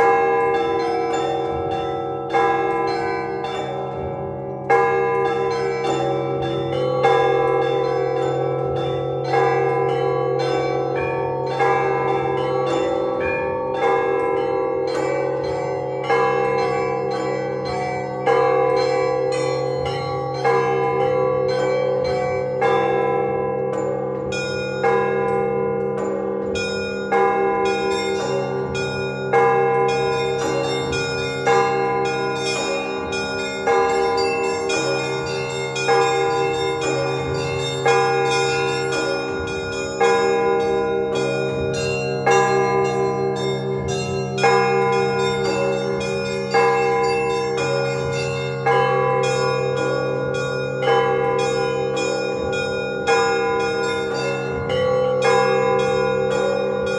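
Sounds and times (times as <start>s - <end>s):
deep church bell strikes: 0.0s - 56.9s
middle bells ringing: 0.0s - 56.9s
small bells pattering: 0.0s - 56.9s.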